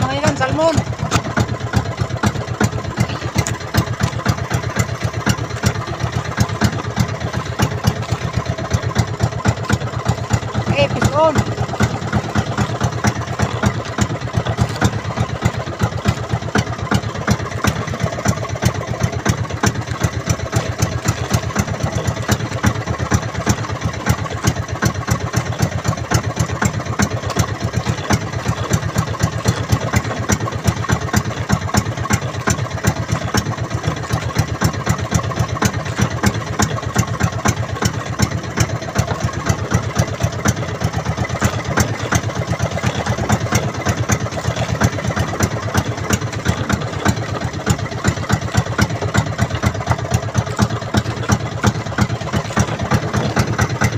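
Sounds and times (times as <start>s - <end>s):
boat engine idling with knocking: 0.0s - 53.9s.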